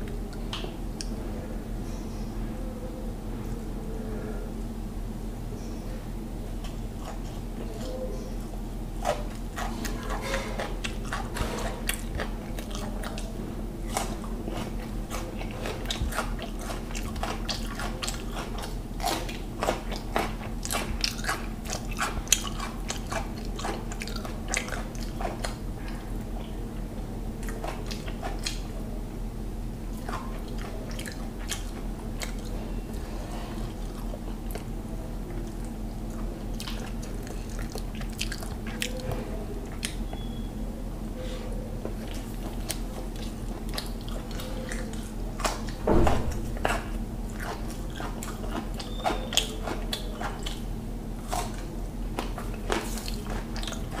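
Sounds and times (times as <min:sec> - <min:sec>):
steady low hum: 0:00.0 - 0:54.0
close chewing clicks and smacks: 0:06.6 - 0:28.8, 0:29.9 - 0:40.5, 0:41.8 - 0:54.0.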